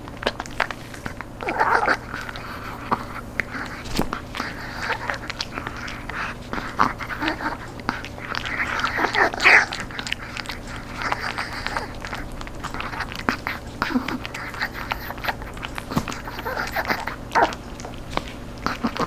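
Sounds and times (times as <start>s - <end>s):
dog crunching hard chew: 0.0s - 19.0s.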